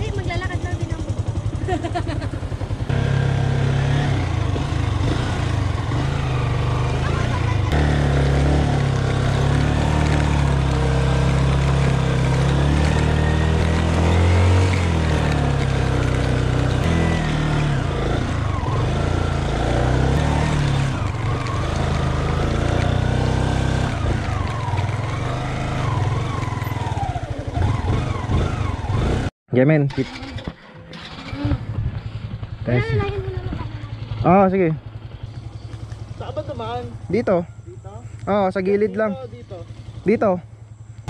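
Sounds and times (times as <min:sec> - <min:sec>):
motorcycle engine under load: 0:00.0 - 0:41.0.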